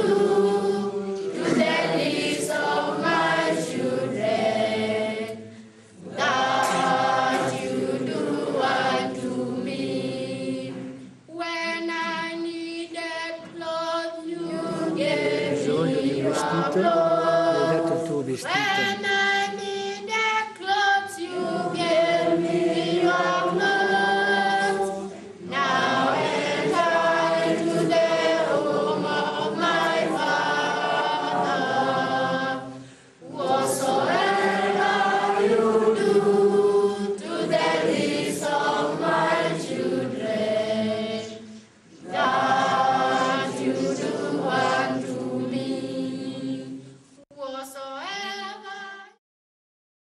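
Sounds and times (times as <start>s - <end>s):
children's choir singing: 0.0s - 49.2s.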